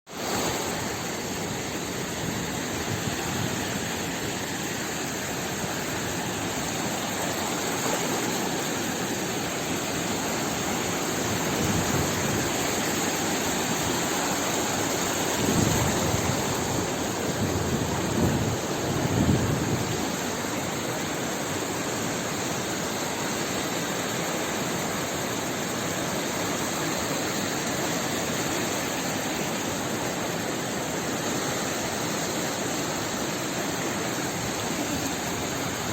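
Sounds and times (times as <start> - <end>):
sea water rushing: 0.1 - 35.9.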